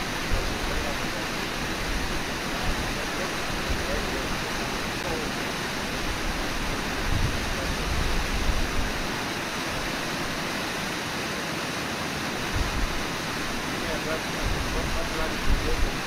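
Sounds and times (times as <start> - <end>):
white water rushing over falls: 0.0 - 16.0.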